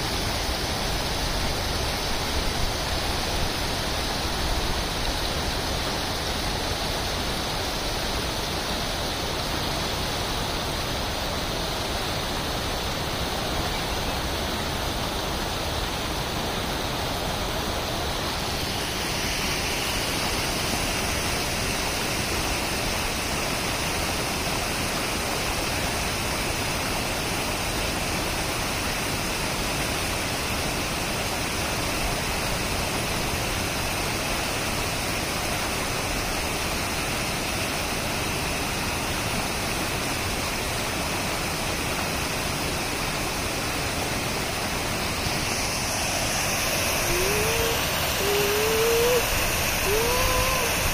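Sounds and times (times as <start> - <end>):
water rushing over rocks: 0.0 - 50.9.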